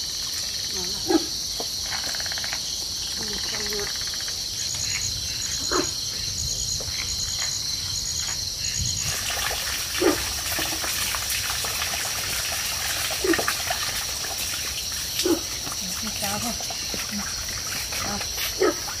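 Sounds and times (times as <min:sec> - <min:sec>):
insects chirring: 0:00.0 - 0:19.0
trickling water: 0:00.0 - 0:19.0.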